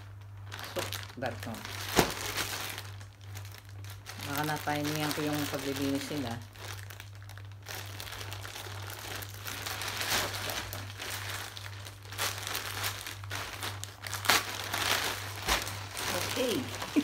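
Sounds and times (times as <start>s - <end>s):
plastic bags crinkling and rustling: 0.0s - 17.0s.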